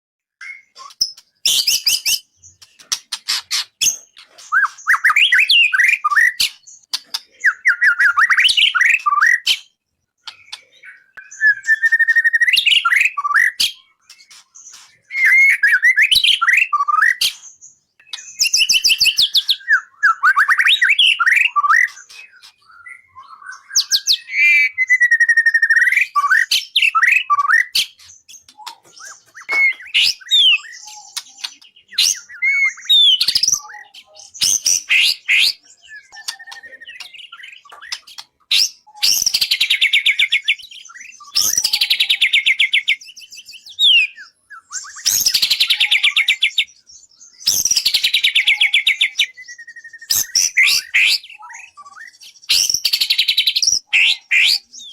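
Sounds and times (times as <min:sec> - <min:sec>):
songbird singing: 0:00.2 - 0:54.9.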